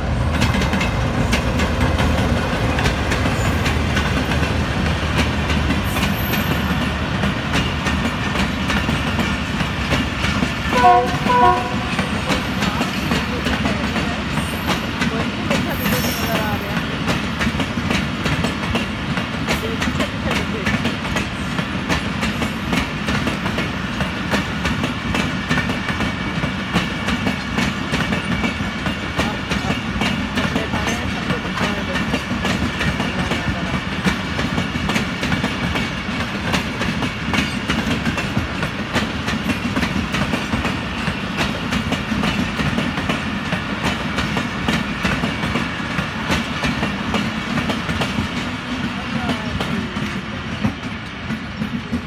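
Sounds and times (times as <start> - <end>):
clickety-clack over rail joints: 0.0 - 52.0
train wheels rumbling on rails: 0.0 - 52.0.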